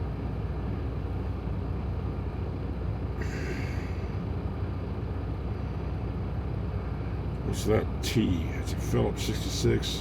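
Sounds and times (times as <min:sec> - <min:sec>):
low rumble inside truck cab: 0:00.0 - 0:10.0.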